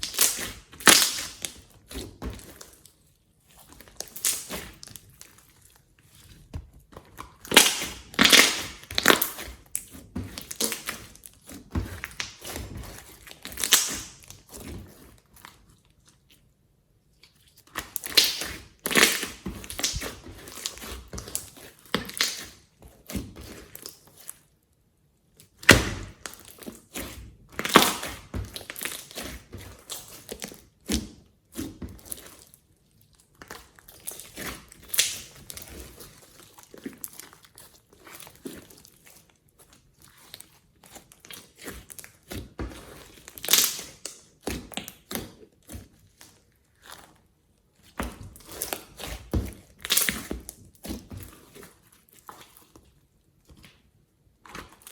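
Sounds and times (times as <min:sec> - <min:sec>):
slime crackling and squelching: 0:00.0 - 0:16.5, 0:17.1 - 0:24.6, 0:25.4 - 0:54.9.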